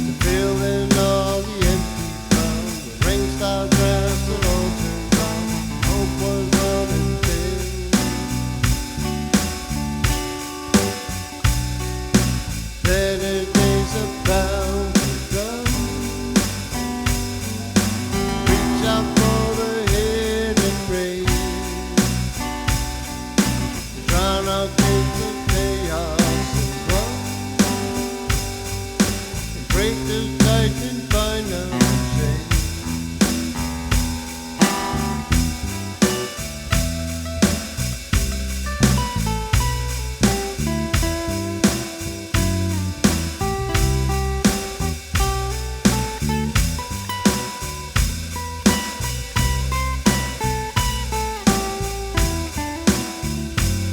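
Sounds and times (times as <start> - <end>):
bass: 0.0 - 53.9
strummed guitar: 0.0 - 53.9.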